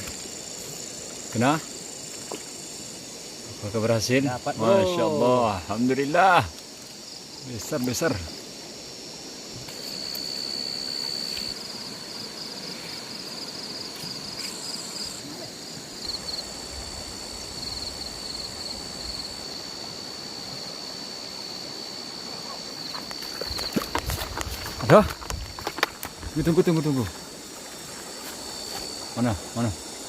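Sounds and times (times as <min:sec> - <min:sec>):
cricket trilling: 0:00.0 - 0:30.0
stream running water: 0:00.0 - 0:30.0.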